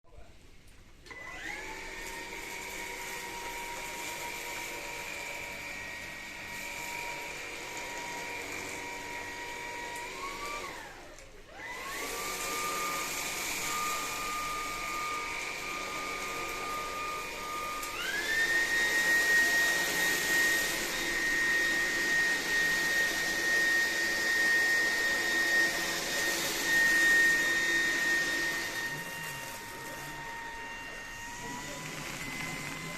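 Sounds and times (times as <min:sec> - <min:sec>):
vacuum cleaner motor whining: 0:01.0 - 0:32.9.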